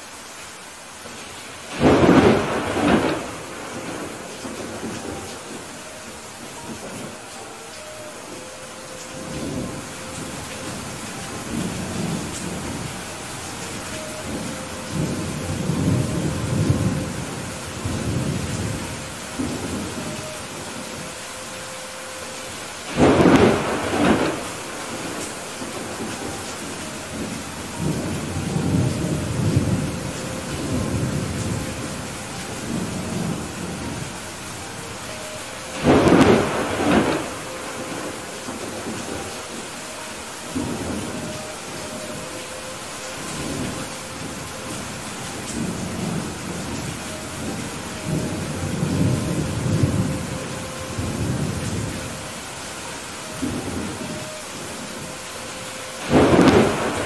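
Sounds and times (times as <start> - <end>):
heavy rain falling: 0.0 - 57.0
rolling thunder: 1.7 - 7.3, 9.1 - 21.1, 22.8 - 55.1, 56.0 - 57.0.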